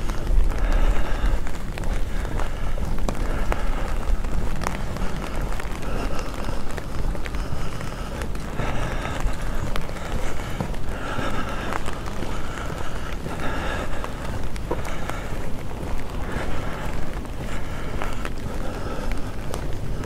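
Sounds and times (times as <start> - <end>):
faint city noise: 0.0 - 20.0
footsteps: 0.0 - 20.0.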